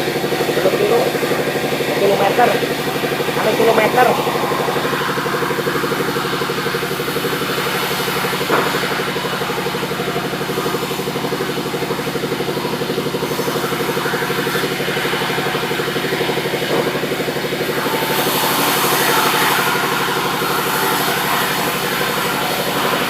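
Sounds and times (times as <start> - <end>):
sawmill machinery sawing wood: 0.0 - 23.0.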